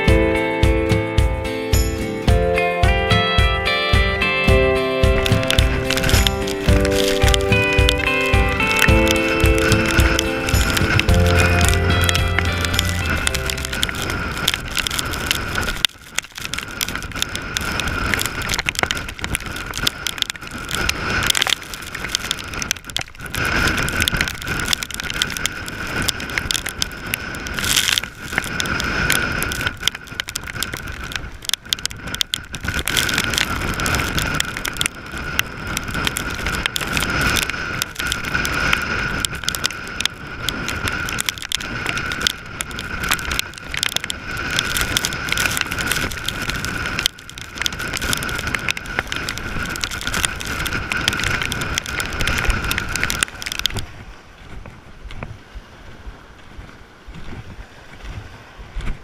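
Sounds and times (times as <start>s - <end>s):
storm wind buffeting microphone: 0.0s - 59.0s.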